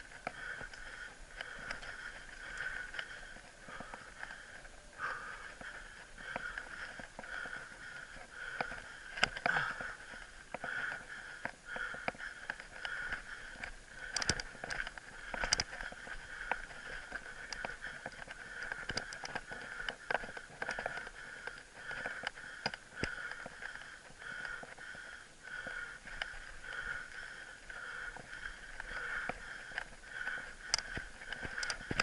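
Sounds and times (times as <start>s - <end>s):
bike rattling on dirt trail: 0.0s - 32.0s.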